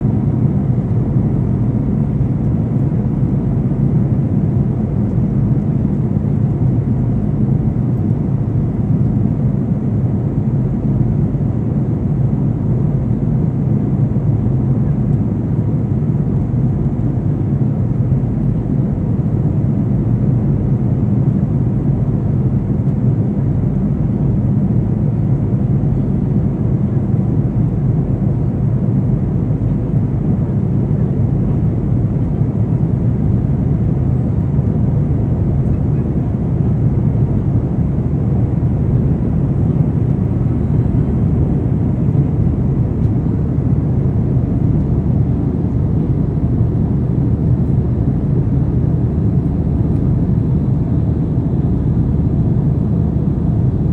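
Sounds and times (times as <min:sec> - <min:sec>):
airliner cabin engine roar: 0:00.0 - 0:53.9.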